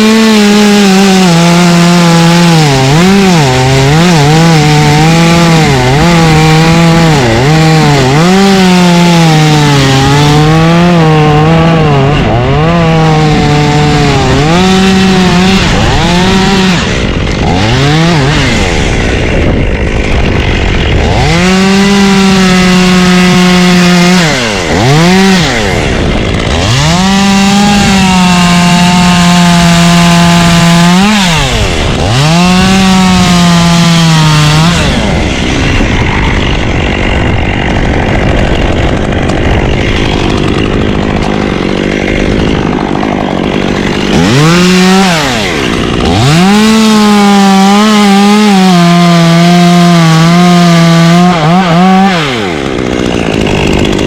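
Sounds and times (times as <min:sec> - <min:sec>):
chainsaw running at full throttle: 0:00.0 - 0:54.0.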